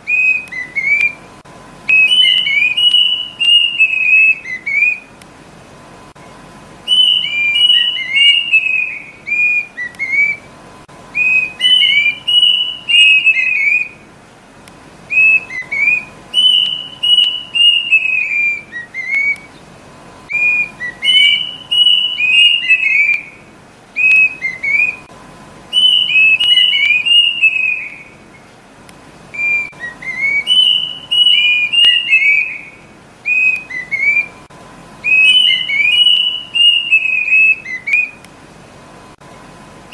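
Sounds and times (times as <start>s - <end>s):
cuckoo whistled call: 0.0s - 1.3s, 1.9s - 5.2s, 6.2s - 10.5s, 11.1s - 14.0s, 15.1s - 19.6s, 20.2s - 25.1s, 25.7s - 28.5s, 29.3s - 38.2s.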